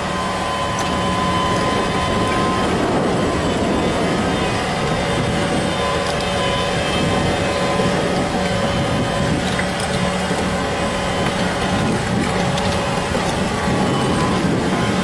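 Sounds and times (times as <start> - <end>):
tracked vehicle engine running: 0.0 - 15.0.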